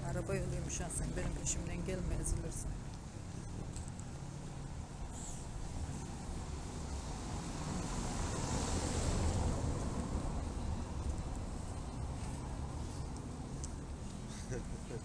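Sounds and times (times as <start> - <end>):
car passing on cobblestones: 0.1 - 15.0.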